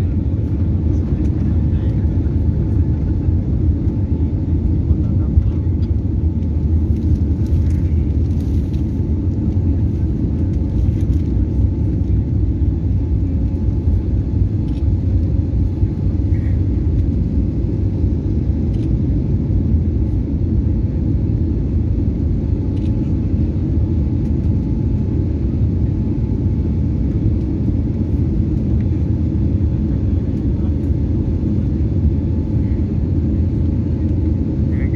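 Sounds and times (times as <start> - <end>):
faint hum: 0.0 - 34.9
jet engines rumbling: 0.0 - 34.9.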